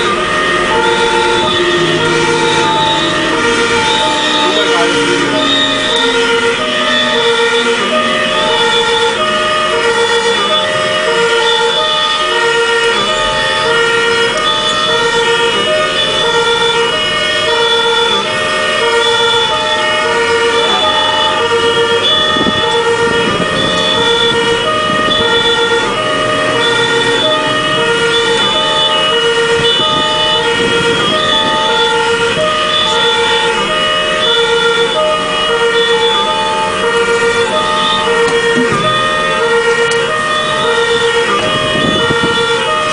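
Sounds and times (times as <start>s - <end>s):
truck engine running: 0.0s - 42.9s
two-tone fire engine siren: 0.0s - 42.9s.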